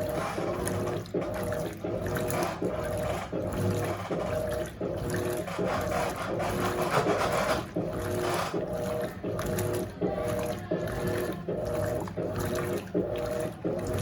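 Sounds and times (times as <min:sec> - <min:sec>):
washing machine motor humming: 0:00.0 - 0:14.0
water and clothes sloshing: 0:00.0 - 0:14.0.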